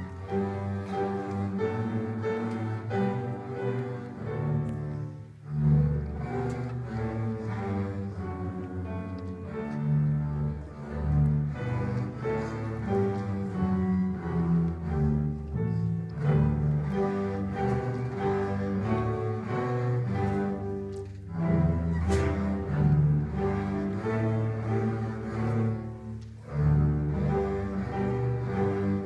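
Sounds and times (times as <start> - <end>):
double basses and cellos bowing: 0.0 - 29.0.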